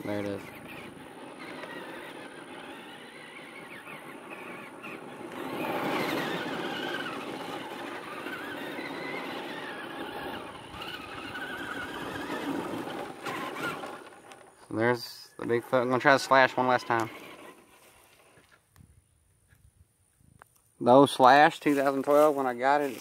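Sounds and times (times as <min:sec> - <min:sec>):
toy truck electric motor whining: 0:00.0 - 0:18.6.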